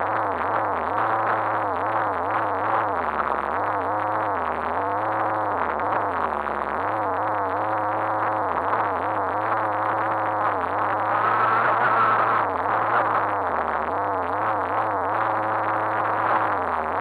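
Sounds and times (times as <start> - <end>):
muffled rc car motor whining: 0.0 - 17.0.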